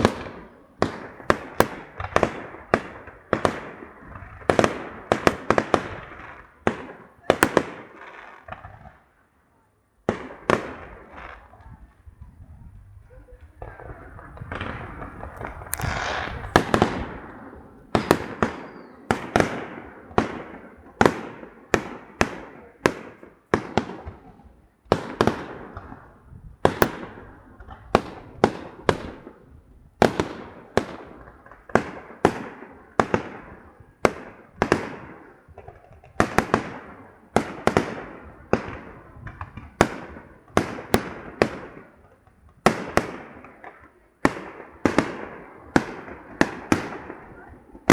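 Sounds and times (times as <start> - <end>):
fireworks bursting with echo: 0.0 - 47.9.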